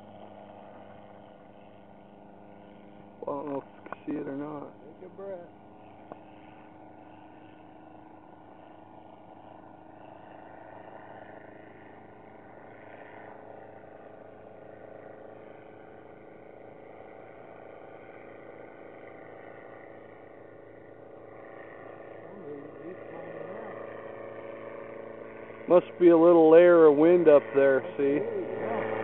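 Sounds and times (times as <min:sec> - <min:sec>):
distant aircraft engine droning: 0:00.0 - 0:29.0.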